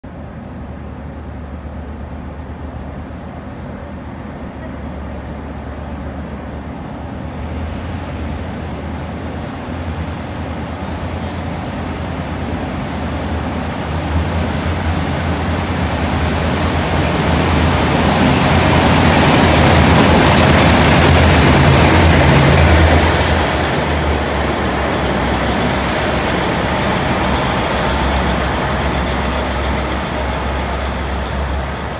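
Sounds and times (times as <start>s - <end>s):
locomotive engine drone: 0.0s - 31.9s
train wheel noise: 0.0s - 31.9s.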